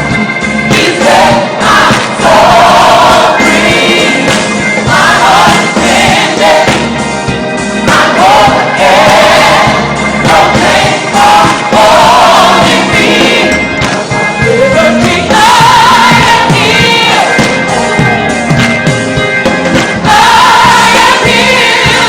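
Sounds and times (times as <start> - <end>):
choir singing gospel song: 0.0 - 22.0
musical accompaniment: 0.0 - 22.0.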